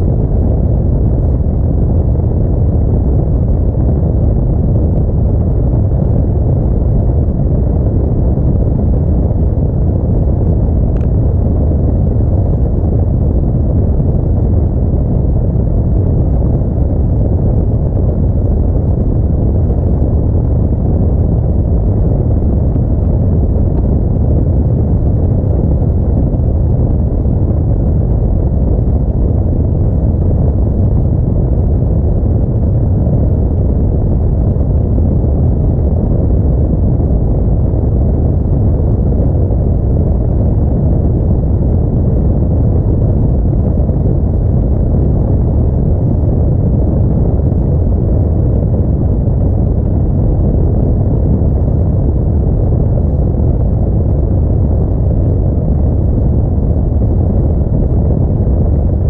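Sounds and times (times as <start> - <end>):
moving car rumble: 0.0 - 59.0.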